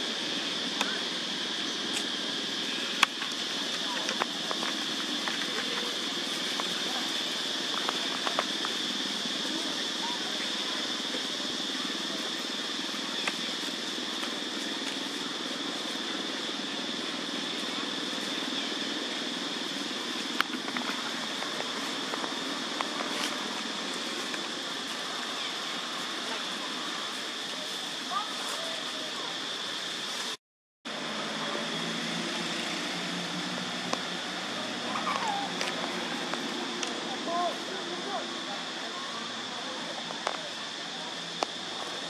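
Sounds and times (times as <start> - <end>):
droning whine and pulsing hum: 0.0 - 42.0
outdoor background noise: 0.0 - 42.0.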